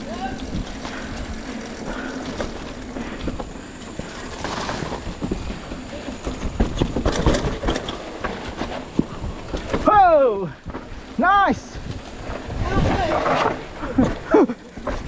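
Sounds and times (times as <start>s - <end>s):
wind buffeting microphone: 0.0s - 8.0s, 8.8s - 15.0s
bike knocks and rattles: 0.0s - 15.0s.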